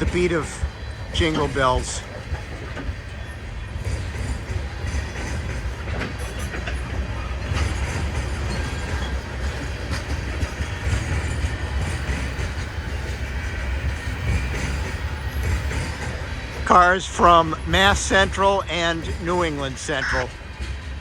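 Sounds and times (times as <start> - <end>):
wheels clicking over rail joints: 0.0 - 19.7
freight cars rumbling: 0.0 - 21.0.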